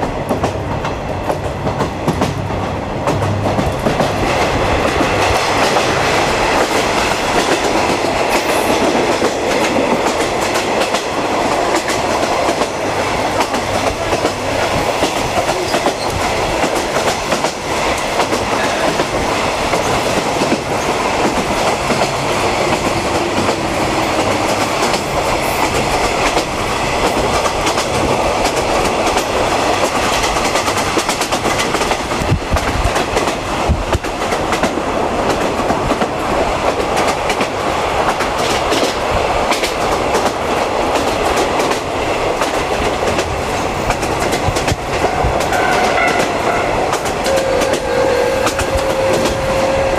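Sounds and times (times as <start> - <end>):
train wheels on track: 0.0 - 49.9.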